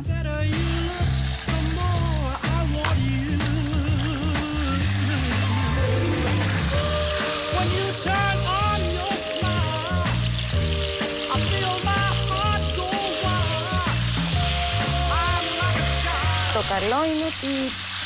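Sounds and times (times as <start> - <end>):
background music: 0.0 - 17.5
mince sizzling in hot oil: 0.4 - 18.0
wooden spoon stirring: 0.6 - 16.7.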